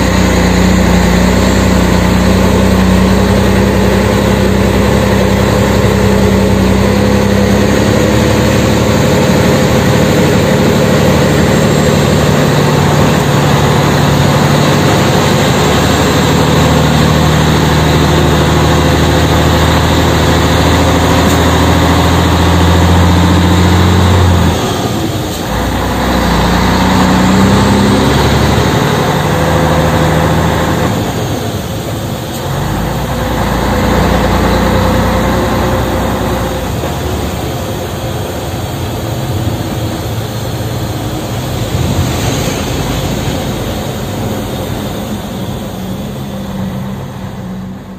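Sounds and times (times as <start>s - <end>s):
diesel engine running hard: 0.0s - 47.9s.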